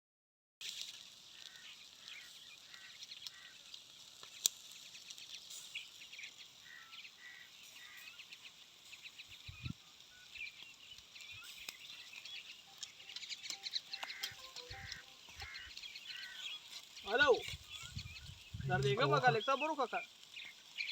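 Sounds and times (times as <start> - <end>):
faint hiss: 0.6 - 20.9
birds chirping: 0.7 - 20.9.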